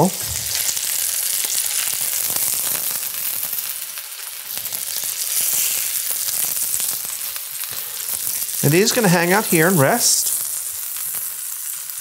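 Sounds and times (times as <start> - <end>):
meat frying in oil: 0.0 - 12.0.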